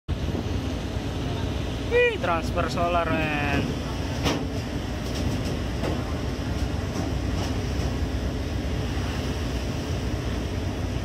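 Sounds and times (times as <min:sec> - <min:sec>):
boat engine rumbling: 0:00.1 - 0:11.0
rough seas: 0:00.1 - 0:11.0.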